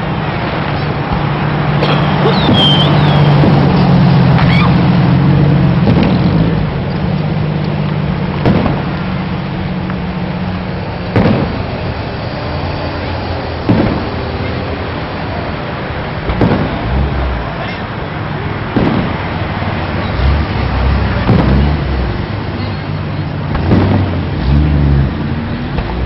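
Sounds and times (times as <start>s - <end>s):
low engine hum: 0.0s - 26.0s
fireworks bangs: 0.1s - 12.3s, 13.0s - 24.8s.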